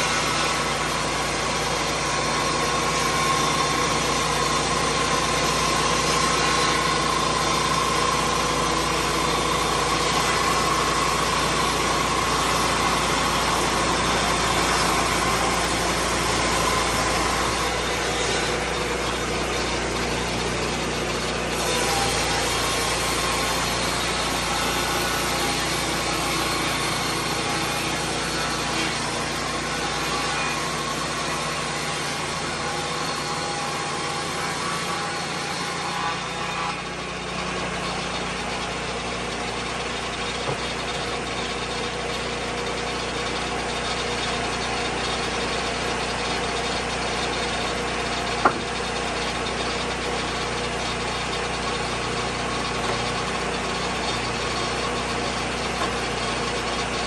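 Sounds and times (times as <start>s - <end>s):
spinning saw blade: 0.0s - 57.0s.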